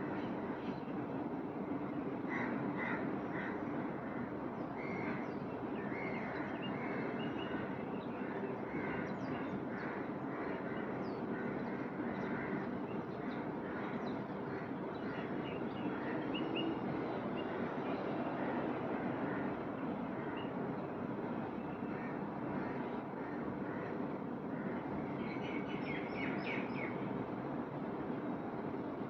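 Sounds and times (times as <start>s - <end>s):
outdoor ambient hiss: 0.0s - 29.0s.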